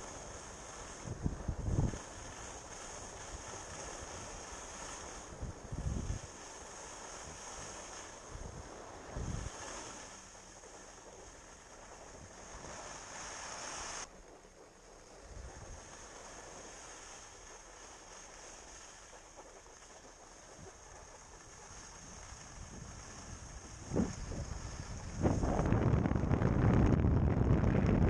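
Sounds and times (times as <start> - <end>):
wind rushing on microphone: 0.0 - 14.1, 15.0 - 17.3, 20.4 - 28.0.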